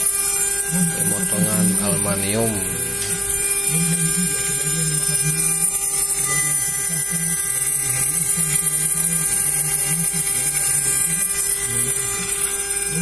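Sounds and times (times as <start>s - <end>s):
router spindle whining: 0.0s - 13.0s.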